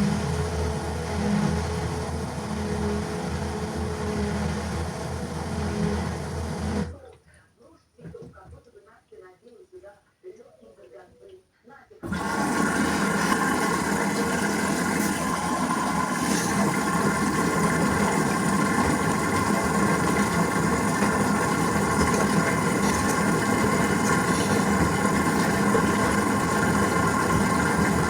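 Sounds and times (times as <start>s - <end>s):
washing machine humming: 0.0s - 7.2s, 12.0s - 28.0s.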